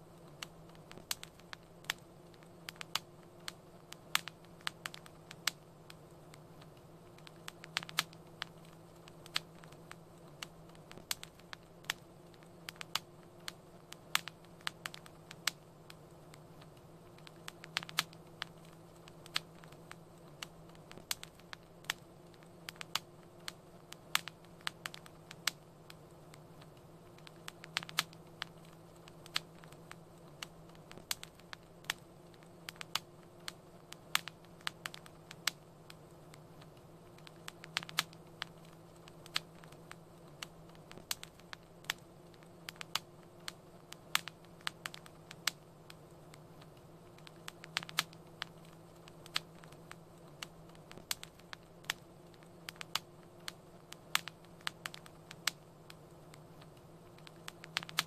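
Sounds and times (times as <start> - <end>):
low hiss with faint hum: 0.0 - 58.0
wood fire crackling: 0.0 - 58.0.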